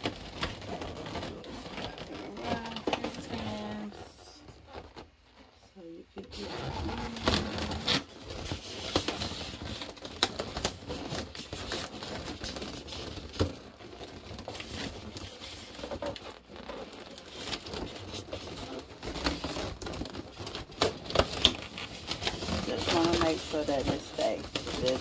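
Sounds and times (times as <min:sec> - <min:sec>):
balloons crinkling and rubbing: 0:00.0 - 0:25.0.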